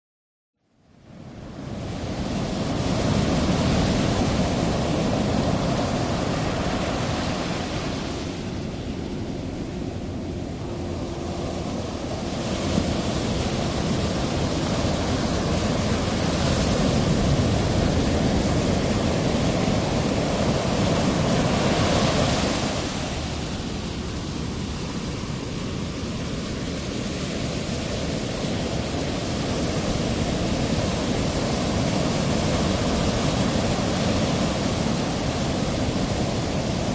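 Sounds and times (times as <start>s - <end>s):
ocean waves breaking: 1.1s - 36.9s.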